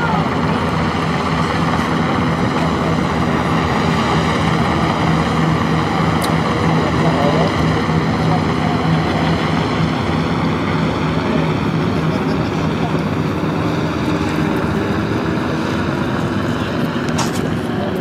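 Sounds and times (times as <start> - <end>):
helicopter rotor drone: 0.0 - 18.0.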